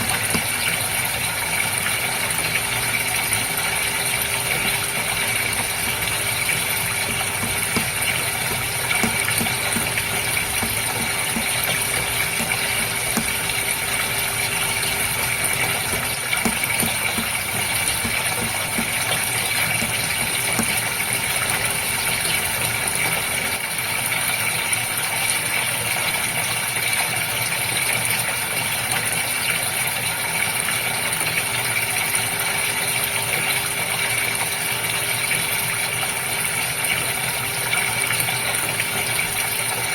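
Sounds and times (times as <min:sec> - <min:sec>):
water pump hum: 0:00.0 - 0:39.9
water splashing and trickling: 0:00.0 - 0:39.9.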